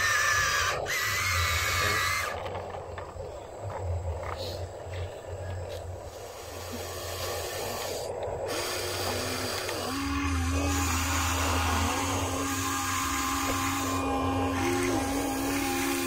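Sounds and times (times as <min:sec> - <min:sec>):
toy gear motors whining: 0:00.0 - 0:03.2, 0:06.1 - 0:16.0.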